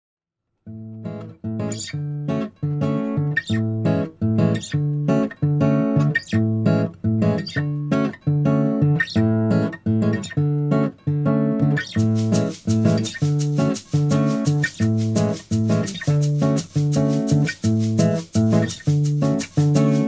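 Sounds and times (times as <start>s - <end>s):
bossa nova acoustic guitar: 0.7s - 20.0s.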